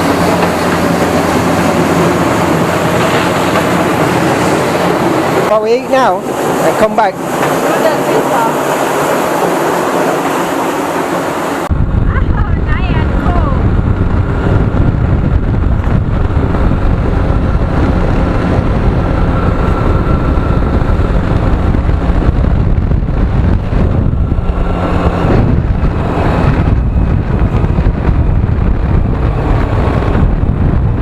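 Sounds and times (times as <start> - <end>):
engine drone: 0.0 - 31.0
wind noise on microphone: 0.0 - 31.0.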